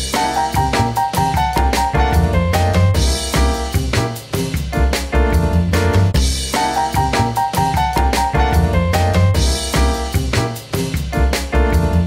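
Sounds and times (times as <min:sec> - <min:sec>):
jazzy piano bass and drums music: 0:00.0 - 0:12.0.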